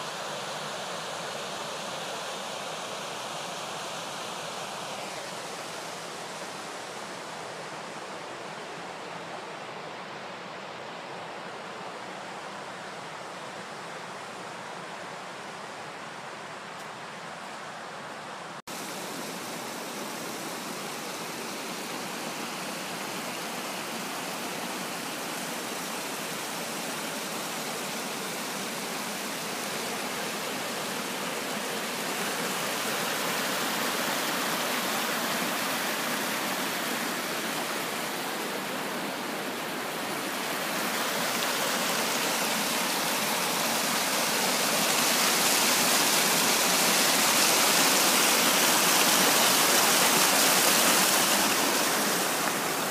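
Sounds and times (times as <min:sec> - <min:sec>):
stream rushing over rocks: 0:00.0 - 0:52.9.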